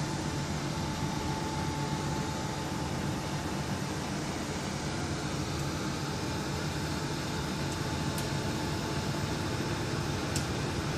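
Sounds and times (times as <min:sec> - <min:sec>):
background hum and hiss: 0:00.0 - 0:10.9.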